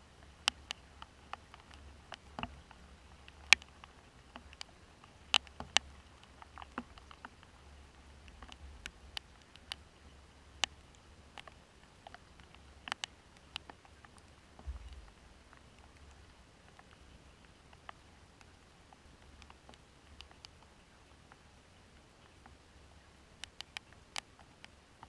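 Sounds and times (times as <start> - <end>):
raindrops tapping: 0.0 - 22.6
faint low rumble: 0.0 - 25.0.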